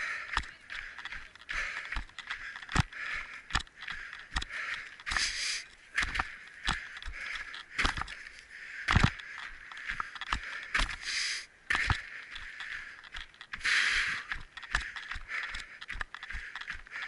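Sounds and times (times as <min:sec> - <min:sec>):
footsteps on the ground: 0:00.0 - 0:17.0.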